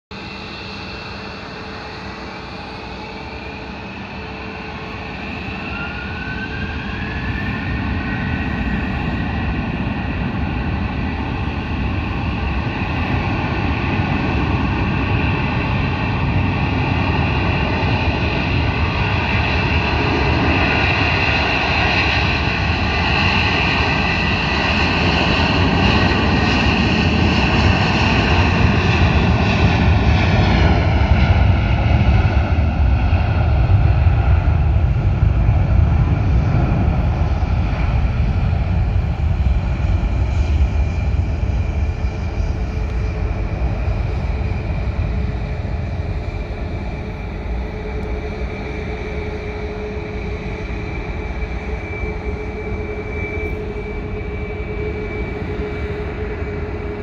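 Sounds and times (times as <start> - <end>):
jet engines at takeoff: 0.1 - 57.0.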